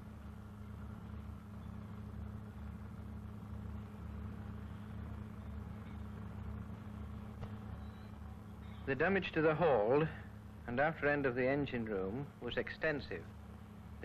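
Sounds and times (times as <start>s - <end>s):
low hum with faint hiss: 0.0s - 14.0s.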